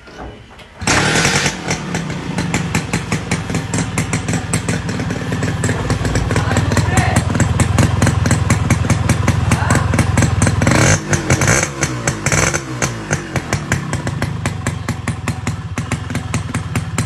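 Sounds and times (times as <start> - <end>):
motorcycle engine revving and idling: 0.8 - 17.0.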